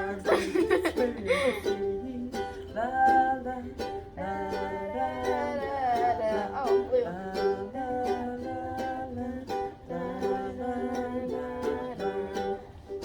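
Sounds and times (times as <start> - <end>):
strummed acoustic guitar chords: 0.0 - 13.0.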